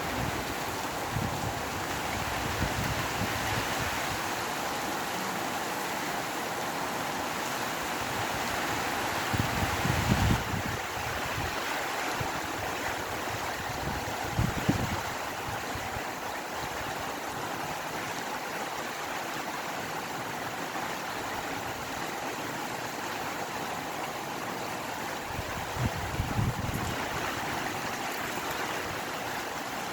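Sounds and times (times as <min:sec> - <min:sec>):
rain falling: 0:00.0 - 0:29.9
wind gusts: 0:00.0 - 0:29.9.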